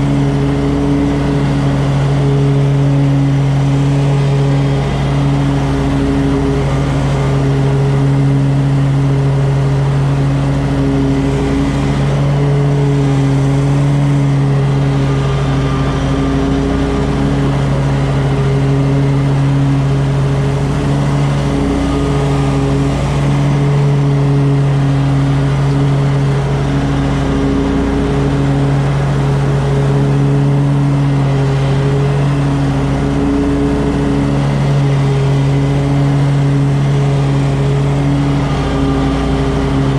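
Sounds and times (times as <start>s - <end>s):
engine droning hum: 0.0s - 39.9s.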